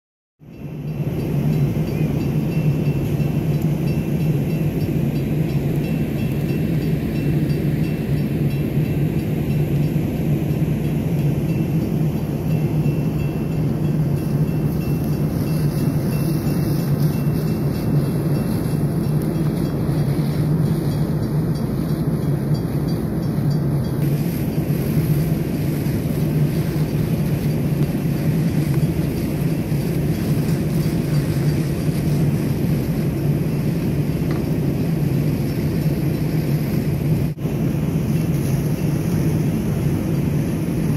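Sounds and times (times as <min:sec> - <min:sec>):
pump engine low drone: 0:00.4 - 0:40.9.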